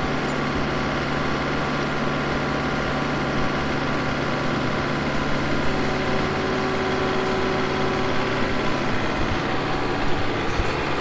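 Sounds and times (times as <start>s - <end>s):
skid steer engine idling: 0.0s - 11.0s.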